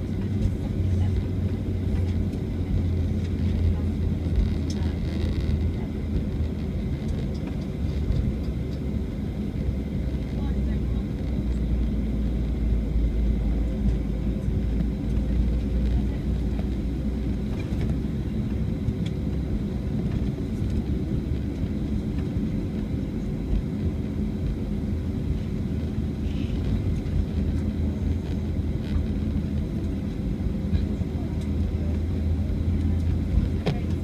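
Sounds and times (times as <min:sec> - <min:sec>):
aircraft engine drone: 0:00.0 - 0:34.0
airflow rumble: 0:00.0 - 0:34.0.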